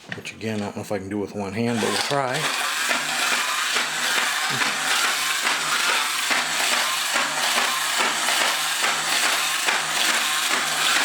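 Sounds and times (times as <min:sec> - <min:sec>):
toy robot motor clatter: 0:01.7 - 0:11.0.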